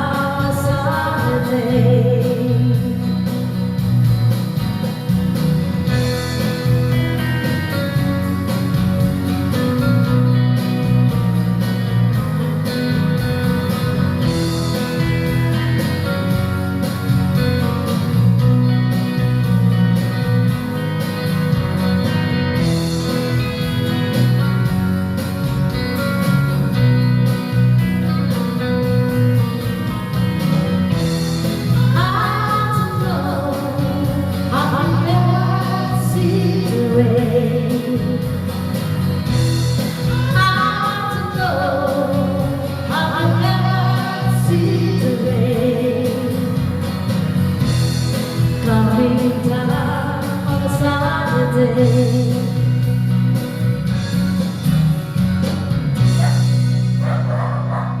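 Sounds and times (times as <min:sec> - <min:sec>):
person singing karaoke: 0:00.0 - 0:54.8
band backing track with guitar: 0:00.0 - 0:58.0.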